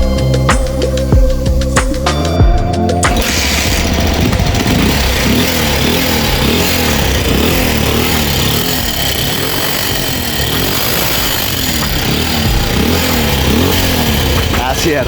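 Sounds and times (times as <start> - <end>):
rhythmic sawing: 0.0 - 15.0.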